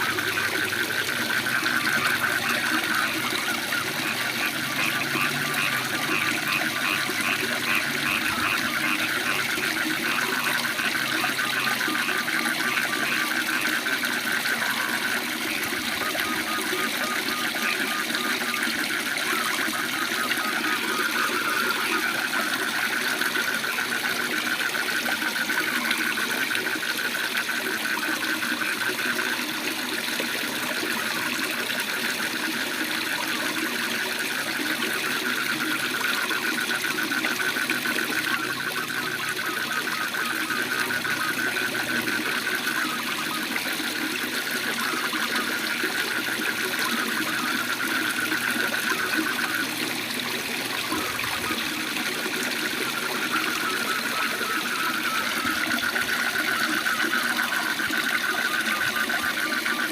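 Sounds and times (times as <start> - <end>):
frogs trilling: 0.0 - 59.9.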